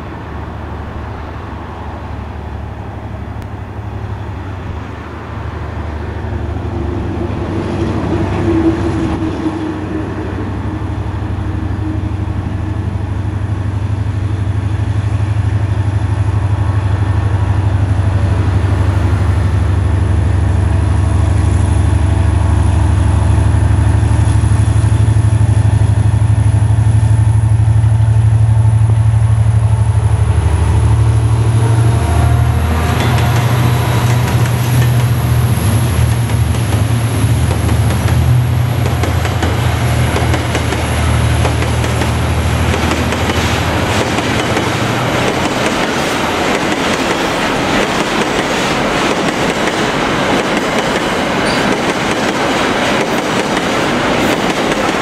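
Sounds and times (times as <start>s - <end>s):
locomotive engine rumbling: 0.0s - 55.0s.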